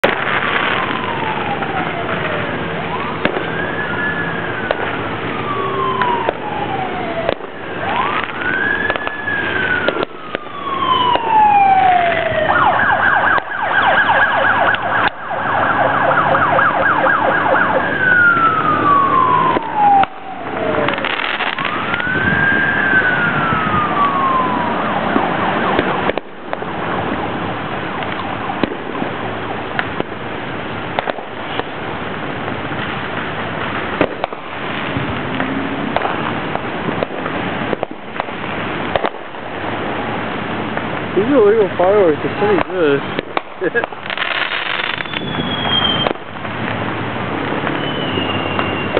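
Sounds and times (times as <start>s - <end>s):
emergency siren wailing: 0.0s - 48.9s
firework bangs: 0.0s - 48.9s.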